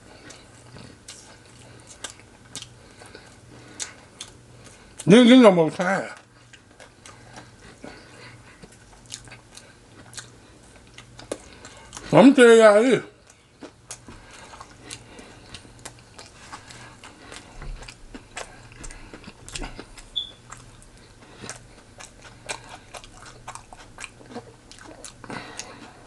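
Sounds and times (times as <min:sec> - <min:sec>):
chewing and biting food: 0:00.0 - 0:05.1, 0:05.8 - 0:12.4, 0:13.2 - 0:26.0
faint low hum: 0:00.0 - 0:26.0.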